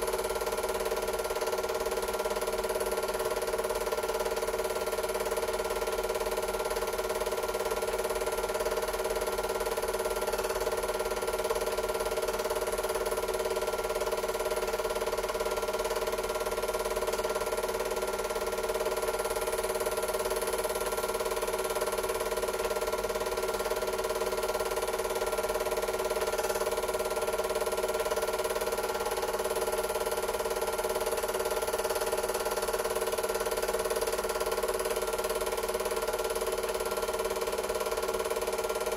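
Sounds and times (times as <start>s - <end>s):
film projector whirring: 0.0s - 38.9s
rapid mechanical ticking: 0.0s - 38.9s.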